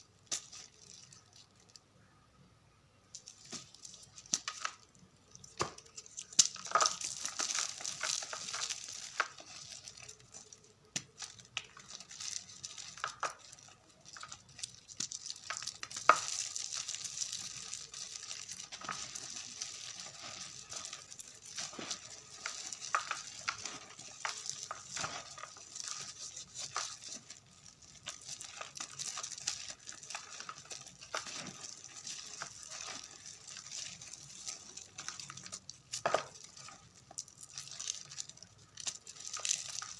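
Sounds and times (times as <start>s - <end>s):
chalk crumbling and crunching: 0.0s - 1.8s, 3.2s - 39.9s.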